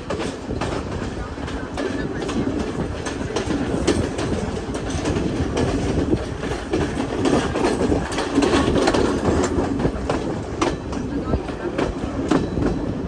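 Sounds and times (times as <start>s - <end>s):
train carriages rumbling: 0.0s - 13.0s
wheels clacking over rail joints: 0.0s - 13.0s.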